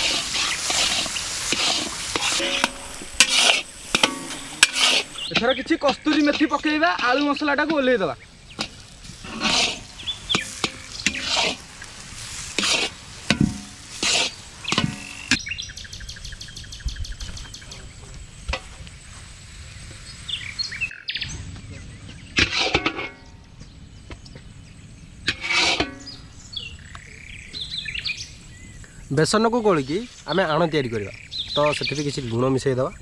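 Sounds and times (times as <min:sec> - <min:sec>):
birds harsh calls: 0:00.0 - 0:18.6, 0:19.7 - 0:33.0.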